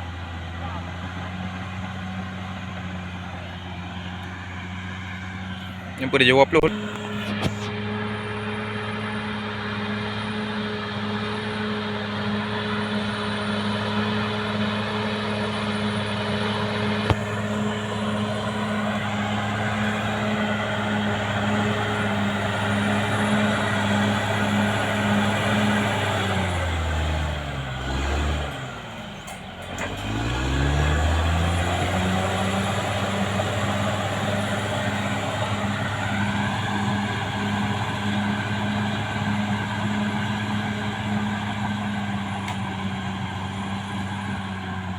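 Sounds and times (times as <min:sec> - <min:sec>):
bulldozer diesel engine drone: 0:00.0 - 0:44.9.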